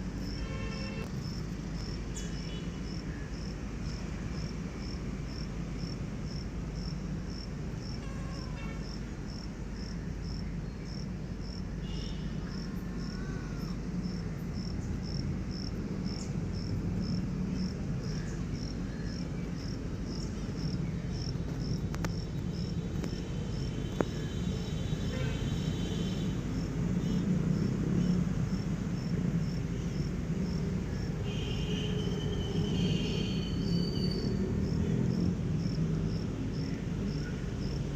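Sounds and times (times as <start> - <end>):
cricket chirping: 0.2 - 37.9.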